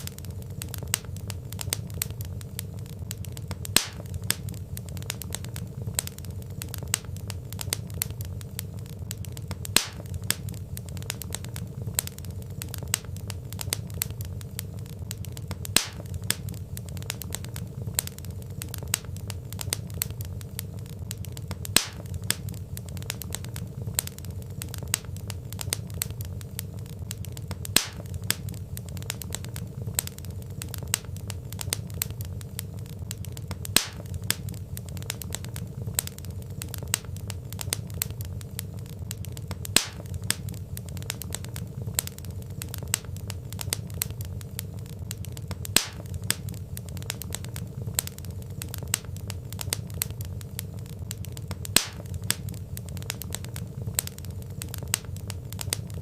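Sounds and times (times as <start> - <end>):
loud pops of fire: 0.0 - 56.0
wood fire crackling: 0.0 - 56.0.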